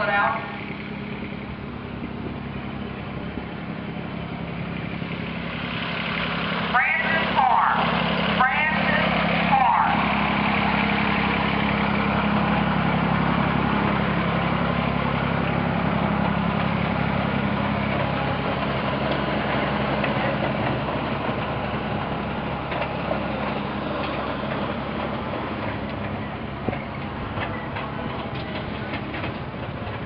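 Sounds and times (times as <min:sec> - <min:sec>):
tractor engine idling: 0:00.0 - 0:30.0.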